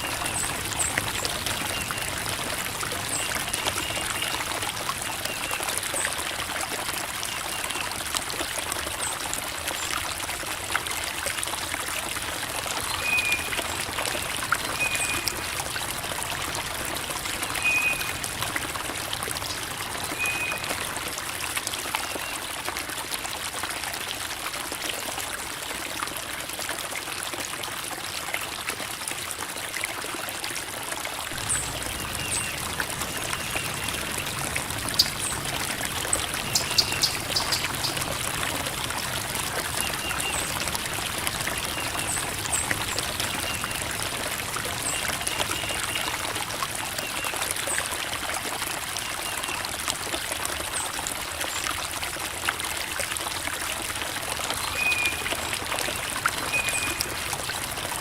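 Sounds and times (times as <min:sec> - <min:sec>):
creek water trickling over rocks: 0:00.0 - 0:58.0.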